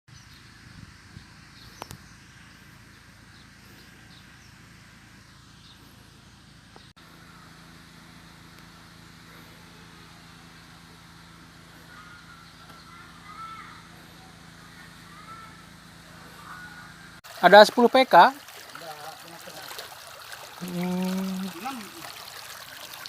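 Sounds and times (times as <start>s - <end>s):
engine-driven water pump running: 0.3s - 23.0s.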